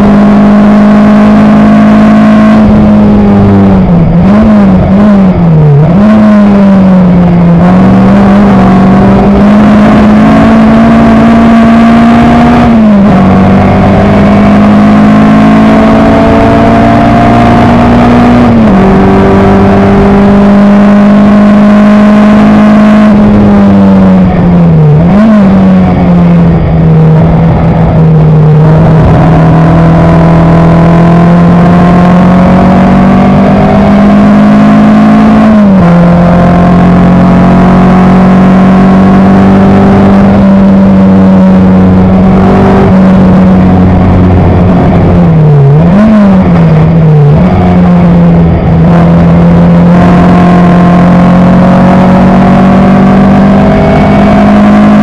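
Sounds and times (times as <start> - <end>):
racing car engine at speed: 0.0 - 55.0.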